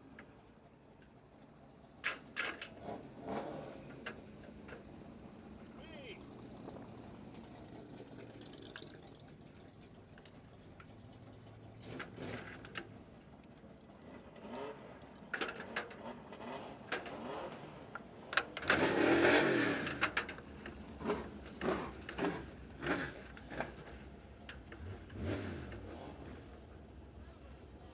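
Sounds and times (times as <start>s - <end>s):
car engines running: 0.0s - 27.9s.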